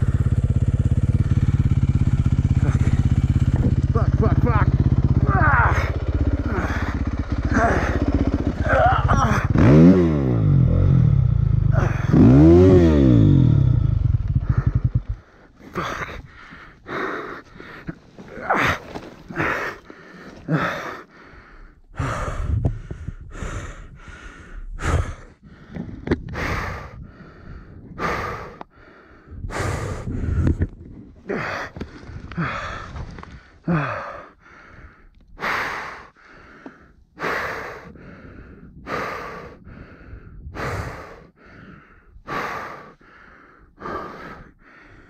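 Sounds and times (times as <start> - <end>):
person breathing heavily: 0.0 - 4.0, 4.7 - 10.2, 11.0 - 45.0.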